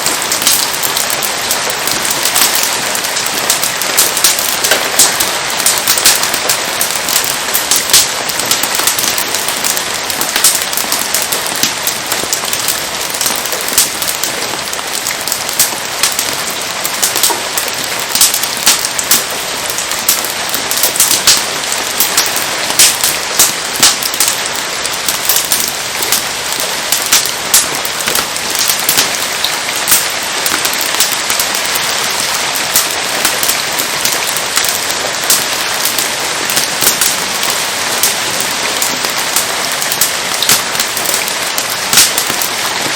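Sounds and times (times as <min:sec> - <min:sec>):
campfire crackling and popping: 0:00.0 - 0:42.9
steady rain hiss: 0:00.0 - 0:42.9.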